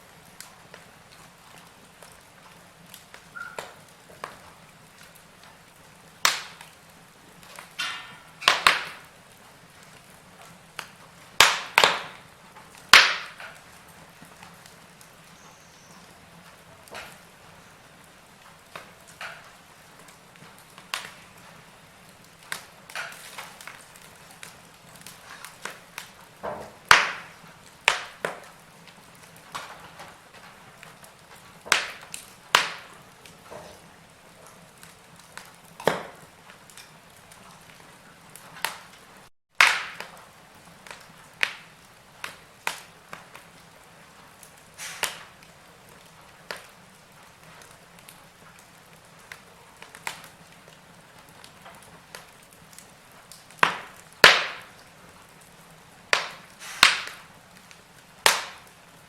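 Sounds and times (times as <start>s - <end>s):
faint steady hiss: 0.0s - 59.0s
log fire crackling: 0.0s - 59.0s.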